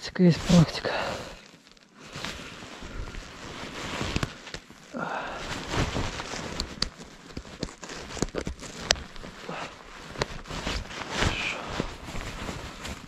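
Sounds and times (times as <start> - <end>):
rustling and crunching in snow: 0.0 - 13.0.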